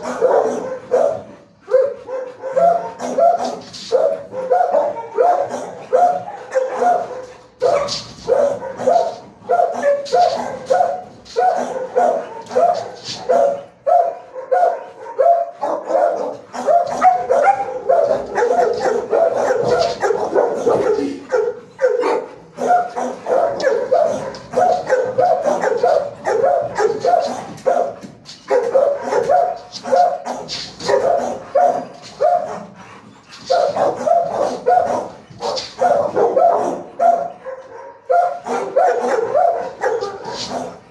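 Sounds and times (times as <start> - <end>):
dogs barking: 0.0 - 40.9.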